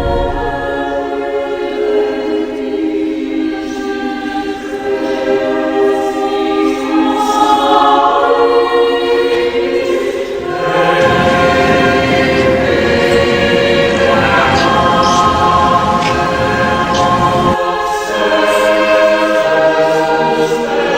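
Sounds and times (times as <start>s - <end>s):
choir singing sustained chords: 0.0s - 20.9s.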